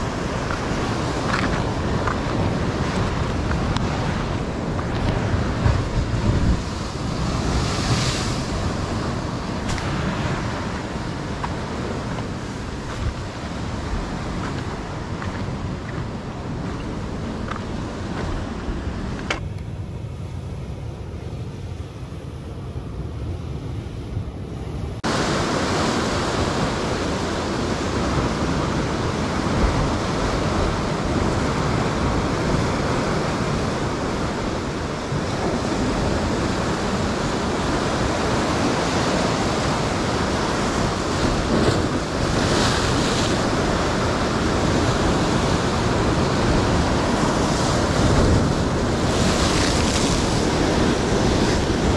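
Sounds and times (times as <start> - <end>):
surf breaking against rocks: 0.0 - 19.4, 25.1 - 51.9
wind buffeting microphone: 0.0 - 19.4, 25.0 - 51.9.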